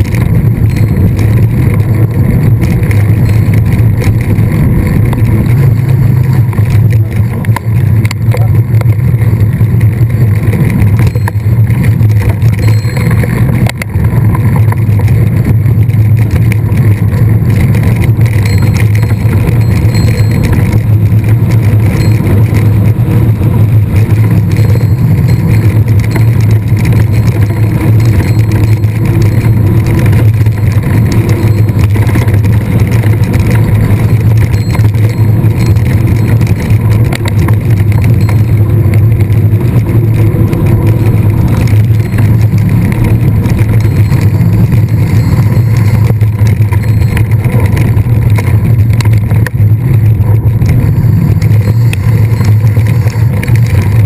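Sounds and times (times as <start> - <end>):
wind and riding noise: 0.0 - 54.0.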